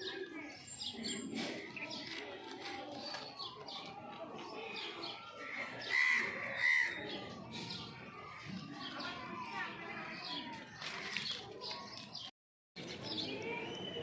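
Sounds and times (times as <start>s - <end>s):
birds chirping: 0.0s - 14.0s
harsh bird calls: 0.0s - 14.0s.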